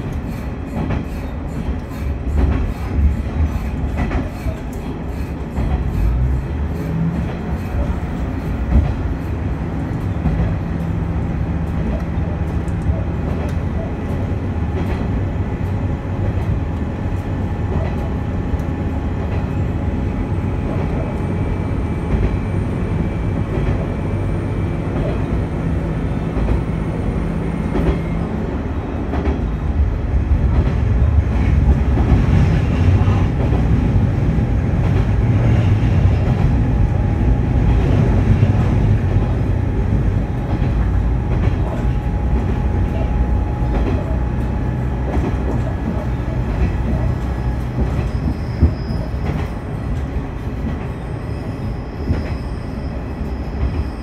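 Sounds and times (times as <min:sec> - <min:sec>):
rail clicks: 0:00.0 - 0:54.0
railcar engine and wheels rumbling: 0:00.0 - 0:54.0.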